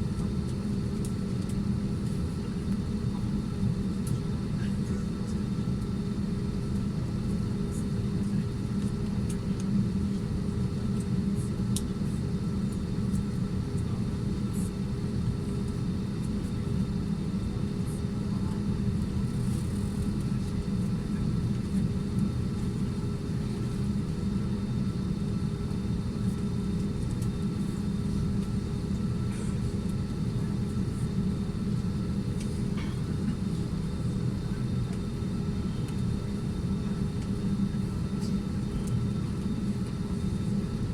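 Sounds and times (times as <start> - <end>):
airliner cabin hum: 0.0 - 40.9.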